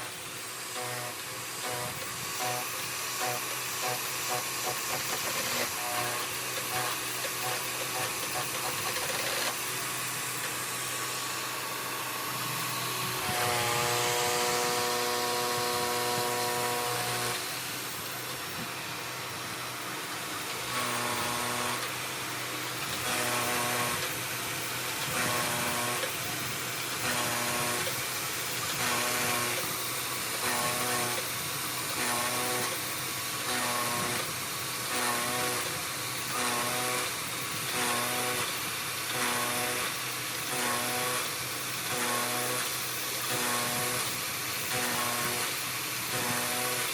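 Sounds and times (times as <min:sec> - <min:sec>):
milling machine motors whining: 0:00.0 - 0:46.9.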